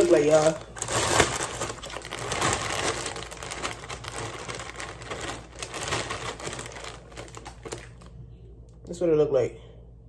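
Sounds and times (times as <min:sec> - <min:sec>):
cereal rattling in bag: 0:00.0 - 0:08.1
plastic bag crinkling: 0:00.0 - 0:08.2.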